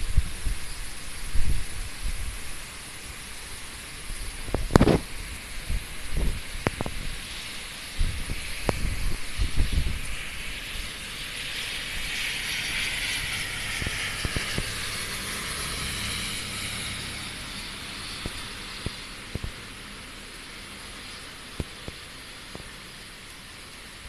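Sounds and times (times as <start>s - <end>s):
wind gusts buffeting microphone: 0.0s - 20.2s
heavy rain hiss: 0.0s - 24.0s.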